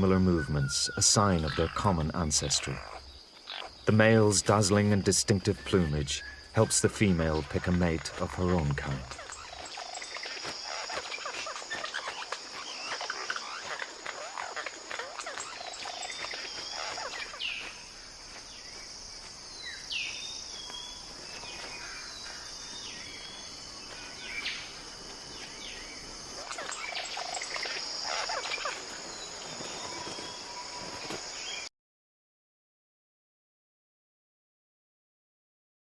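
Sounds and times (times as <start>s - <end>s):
falling bird calls: 0.0s - 31.7s
insect drone: 0.0s - 31.7s.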